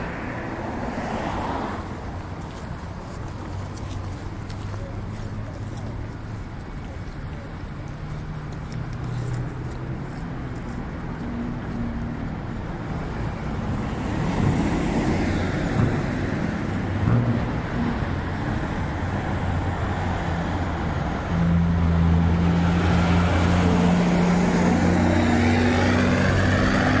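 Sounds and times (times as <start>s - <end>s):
passing road traffic: 0.0s - 27.0s.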